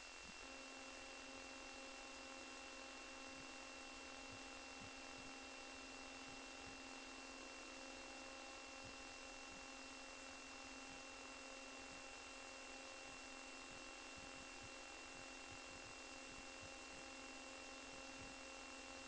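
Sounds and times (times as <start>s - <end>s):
faint electrical hum and hiss: 0.0s - 19.0s.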